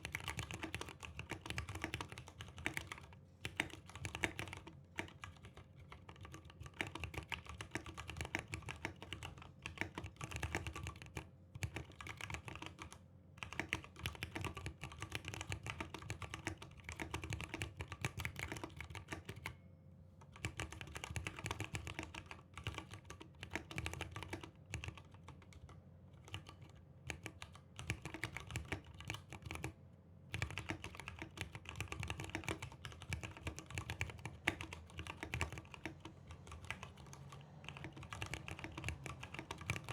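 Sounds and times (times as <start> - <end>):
mechanical keyboard typing: 0.0 - 19.6, 20.3 - 29.7, 30.3 - 39.9.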